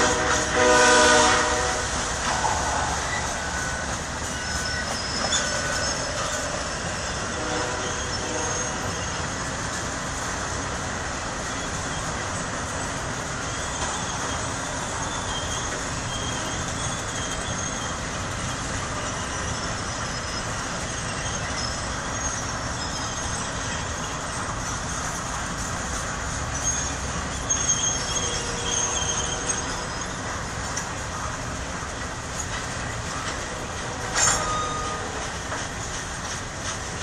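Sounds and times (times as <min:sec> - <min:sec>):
high wheel squeals: 0:00.0 - 0:09.6, 0:11.2 - 0:25.3, 0:25.9 - 0:37.0
freight train wheels rumbling: 0:00.0 - 0:37.0.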